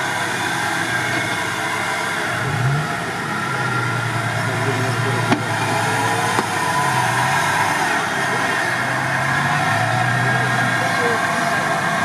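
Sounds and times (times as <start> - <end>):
car engine revving under load: 0.0 - 12.0.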